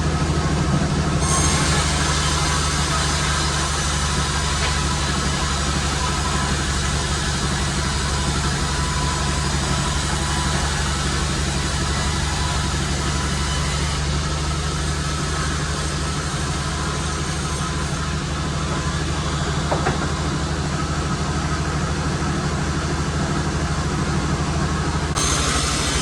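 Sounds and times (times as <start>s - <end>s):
sawmill engine drone: 0.0s - 26.0s.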